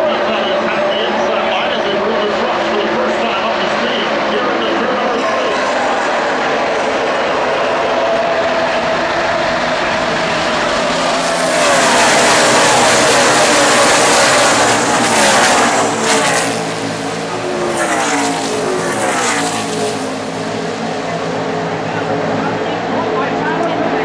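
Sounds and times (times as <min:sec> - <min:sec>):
race trucks passing at speed: 0:00.0 - 0:24.0.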